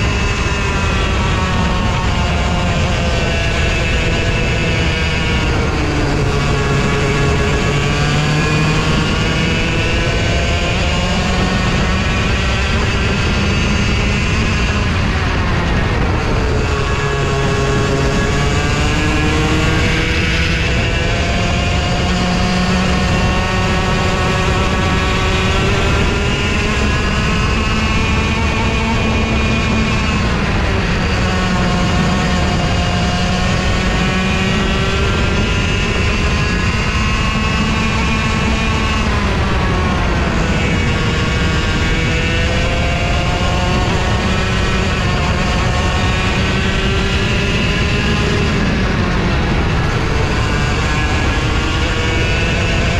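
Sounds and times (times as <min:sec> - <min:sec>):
kart engine revving: 0:00.0 - 0:52.9.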